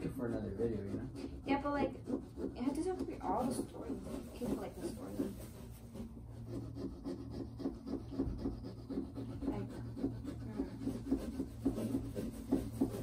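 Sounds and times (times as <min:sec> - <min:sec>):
saws rasping through pumpkin: 0:00.0 - 0:13.0.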